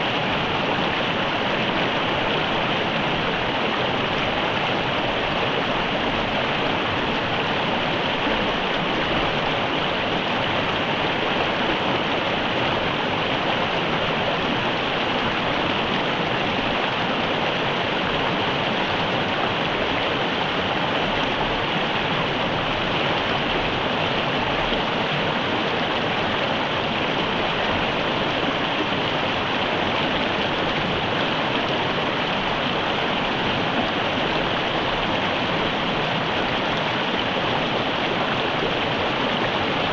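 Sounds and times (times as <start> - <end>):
river running over rocks: 0.0 - 39.9.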